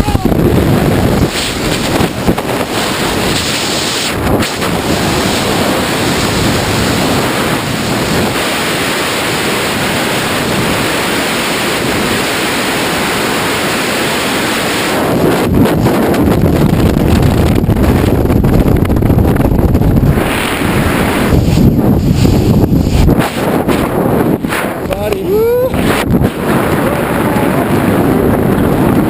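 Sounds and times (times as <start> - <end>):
wind blowing over microphone: 0.0 - 29.0.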